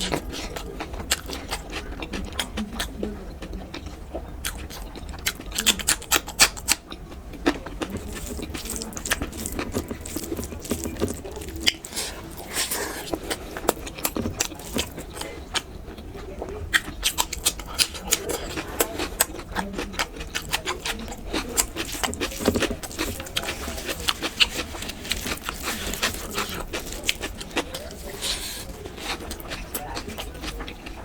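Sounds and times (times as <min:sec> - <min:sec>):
chewing with wet mouth smacks: 0:00.0 - 0:31.0.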